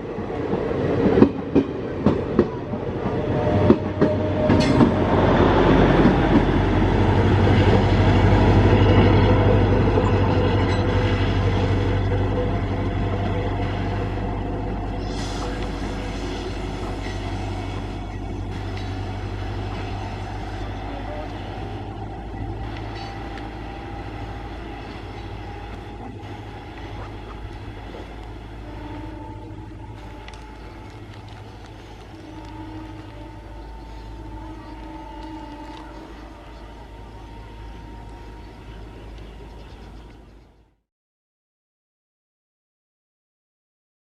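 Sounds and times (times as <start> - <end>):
wheel and rail noise: 0.0 - 40.7
train diesel engine droning: 0.0 - 40.8.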